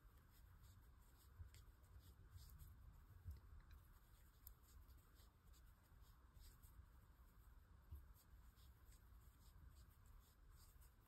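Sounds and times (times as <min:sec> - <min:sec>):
yarn rustling through crochet hook: 0:00.0 - 0:11.0.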